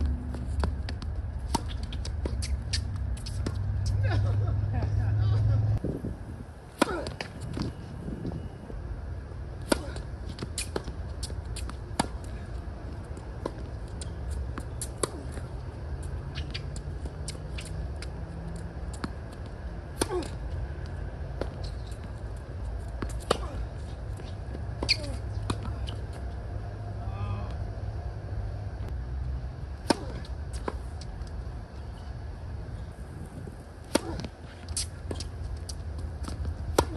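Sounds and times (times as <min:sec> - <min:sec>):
steady low rumble: 0:00.0 - 0:36.9.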